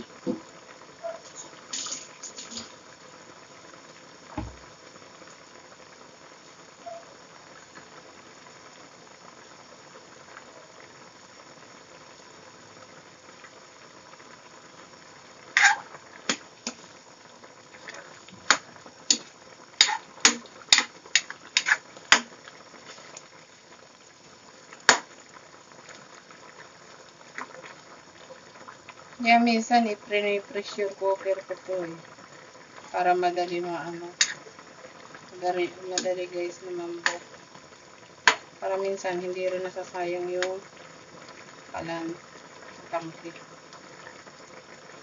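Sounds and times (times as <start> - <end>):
soup boiling in a pot: 0.0 - 45.0.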